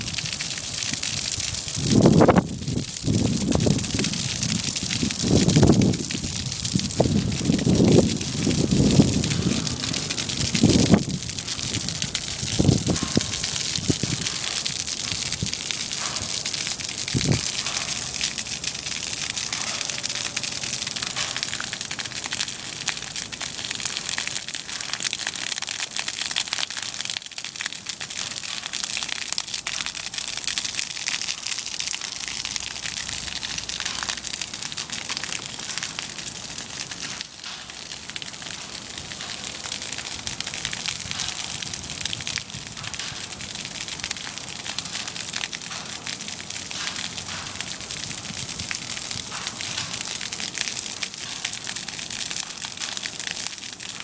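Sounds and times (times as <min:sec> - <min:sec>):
droplets falling on wet concrete: 0:00.0 - 0:54.0.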